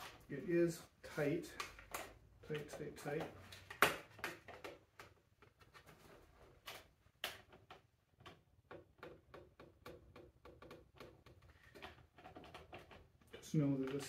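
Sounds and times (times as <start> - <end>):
faint clicks and taps: 1.5 - 6.0, 6.6 - 14.0.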